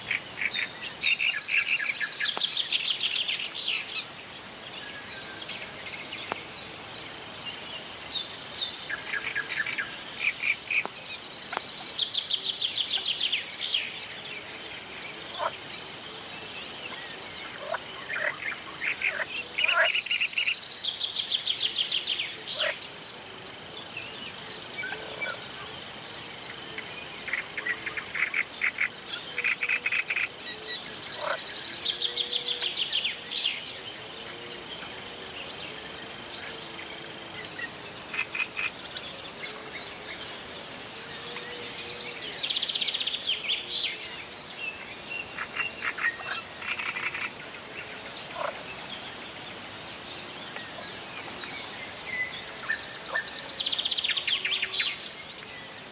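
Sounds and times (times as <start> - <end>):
wild birds singing: 0.0 - 55.9.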